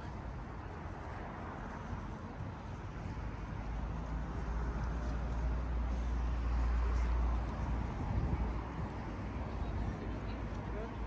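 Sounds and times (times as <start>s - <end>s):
traffic noise: 0.0s - 11.0s
vehicle passing with low rumble: 0.0s - 11.0s.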